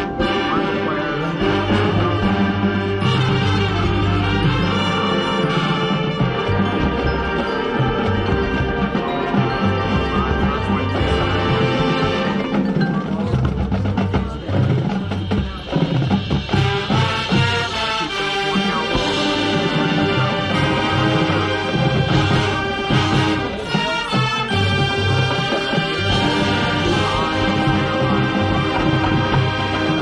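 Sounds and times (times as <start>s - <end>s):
mallet percussion notes: 0.0s - 30.0s
marching band holding chords: 0.0s - 30.0s
percussion hits: 0.0s - 30.0s.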